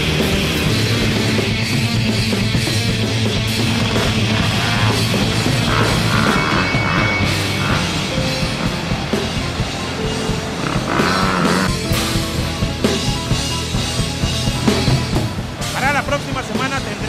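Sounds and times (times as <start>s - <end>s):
loud rock music: 0.0s - 17.0s.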